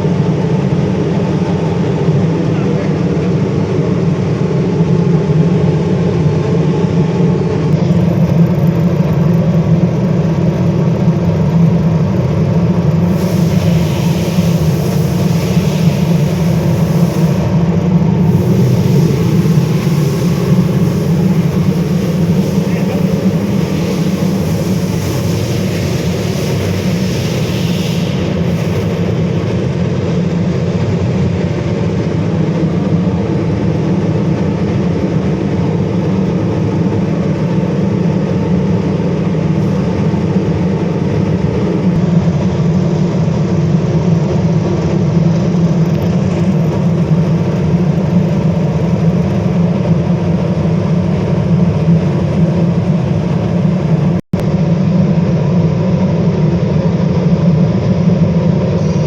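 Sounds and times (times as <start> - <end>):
furnace burner roaring: 0.0 - 59.0.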